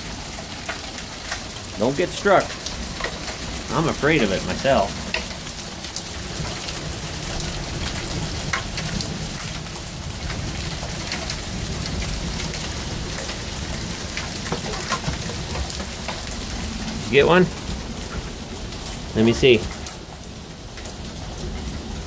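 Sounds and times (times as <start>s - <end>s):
raindrops ticking close by: 0.0s - 22.0s
steady rain falling: 0.0s - 22.0s.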